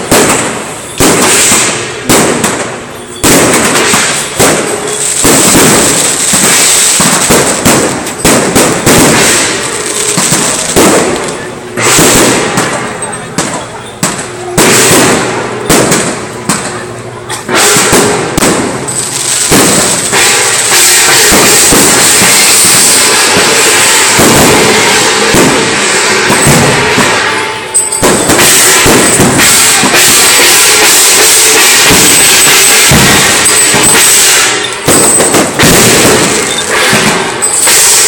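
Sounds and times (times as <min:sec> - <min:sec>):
firecrackers crackling: 0:00.0 - 0:38.0.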